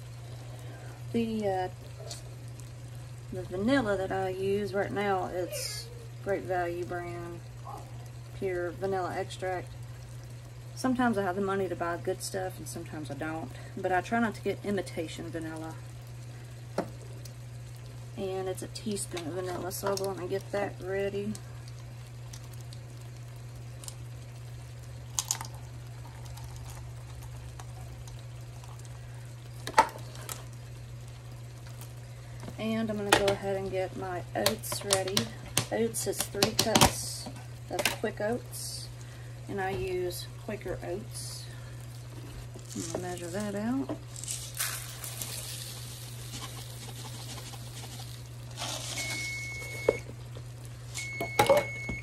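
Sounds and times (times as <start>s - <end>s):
boiling mixture popping: 0.0s - 52.0s
pot bubbling: 0.0s - 52.0s
steady low hum: 0.0s - 52.0s.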